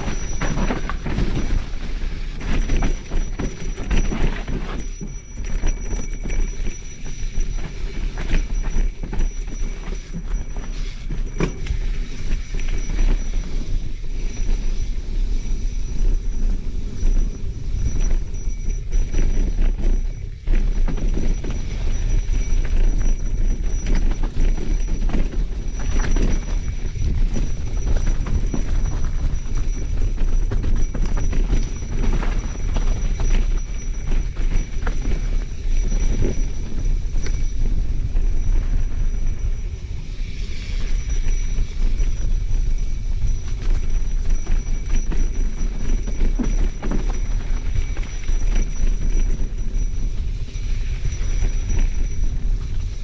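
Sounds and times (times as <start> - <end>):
mountain bike rattling on dirt trail: 0.0 - 53.0
wind rumble on microphone: 0.0 - 53.0.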